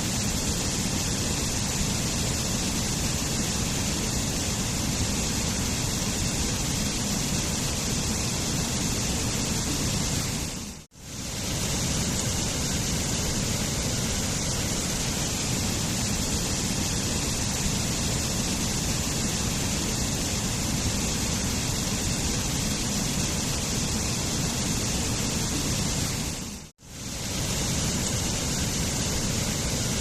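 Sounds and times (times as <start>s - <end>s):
waterfall rushing: 5.5s - 30.0s.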